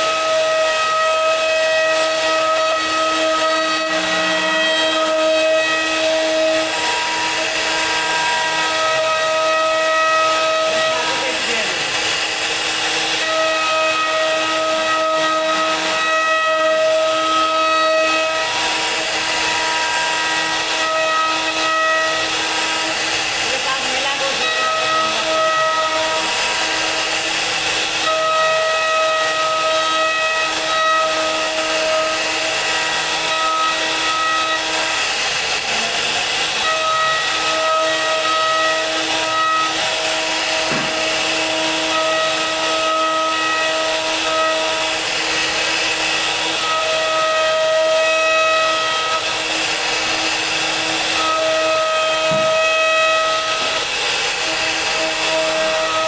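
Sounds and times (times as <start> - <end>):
router bit cutting wood: 0.0 - 56.0.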